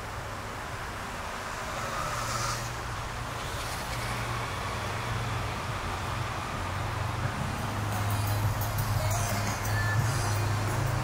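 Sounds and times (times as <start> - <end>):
cars passing: 0.0 - 11.0
low traffic hum: 0.0 - 11.0.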